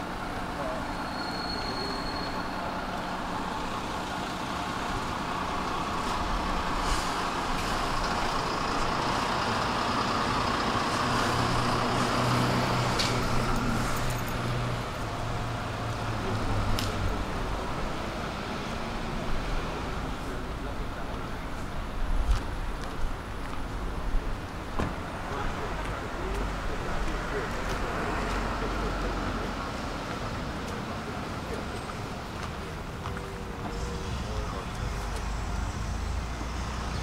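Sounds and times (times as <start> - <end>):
street traffic noise: 0.0 - 37.0
vehicle engine hum: 0.0 - 37.0.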